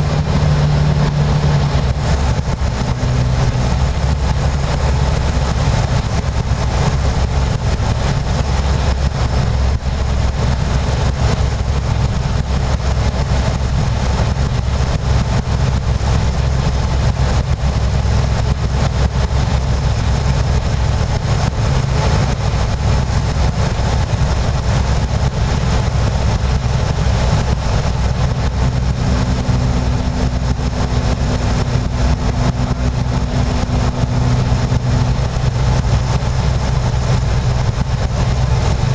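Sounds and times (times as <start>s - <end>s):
propeller engine droning: 0.0s - 38.9s
rush of airflow: 0.0s - 38.9s
steady tone: 0.0s - 38.9s.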